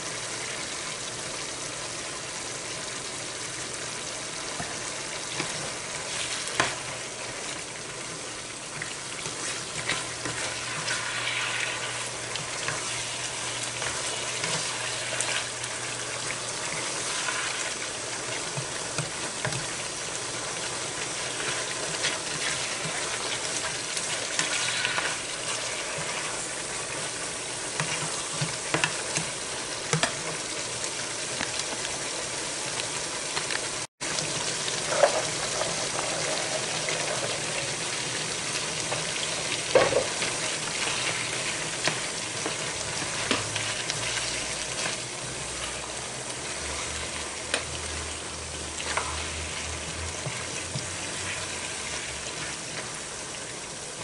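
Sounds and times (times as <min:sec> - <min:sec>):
chicken sizzling in a frying pan: 0:00.0 - 0:54.0.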